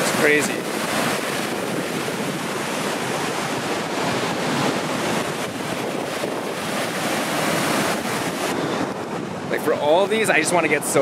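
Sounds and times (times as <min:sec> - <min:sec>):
waterfall rushing: 0:00.0 - 0:10.9
wind buffeting microphone: 0:00.0 - 0:11.0.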